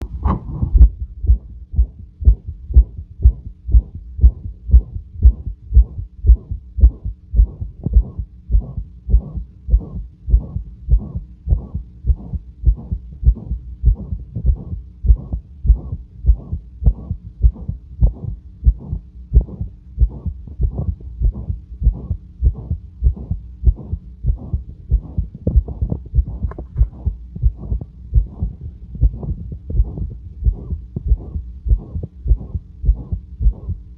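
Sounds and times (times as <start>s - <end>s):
faint steady hum: 0.0s - 33.9s
heartbeat through stethoscope: 0.0s - 33.9s
whooshing heart murmur: 0.0s - 33.9s.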